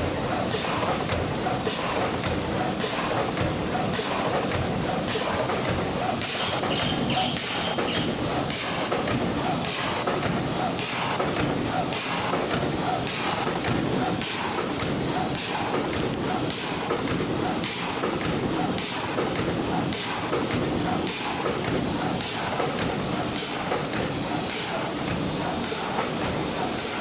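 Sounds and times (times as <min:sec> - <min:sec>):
machine mechanisms clattering: 0:00.0 - 0:27.0.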